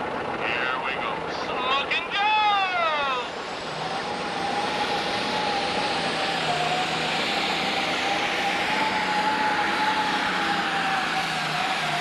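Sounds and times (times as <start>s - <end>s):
diesel engine at full load: 0.0s - 12.0s
turbo whine: 0.0s - 12.0s.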